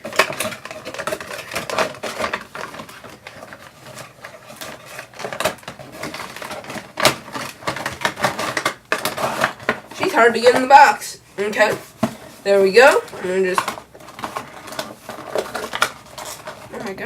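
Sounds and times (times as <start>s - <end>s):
plastic and cardboard clicking: 0.0s - 10.6s, 12.9s - 17.0s.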